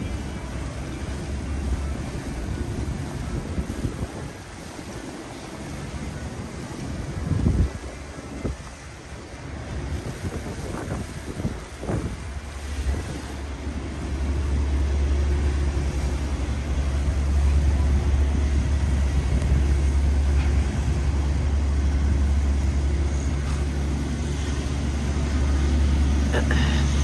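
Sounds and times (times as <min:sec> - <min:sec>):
street noise: 0:00.0 - 0:27.0.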